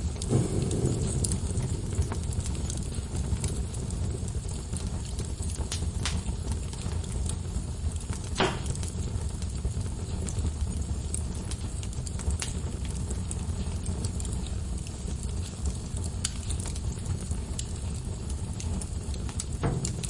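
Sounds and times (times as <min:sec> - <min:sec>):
low rumble of fire: 0:00.0 - 0:20.0
sharp pops of burning wood: 0:00.0 - 0:20.0
wood logs crackling in fireplace: 0:00.0 - 0:20.0.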